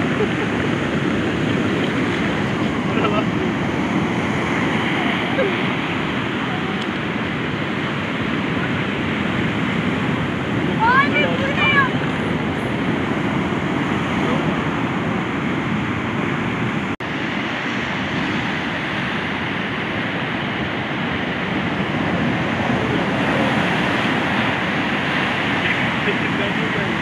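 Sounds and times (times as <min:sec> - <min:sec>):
surf breaking on a beach: 0:00.0 - 0:27.0.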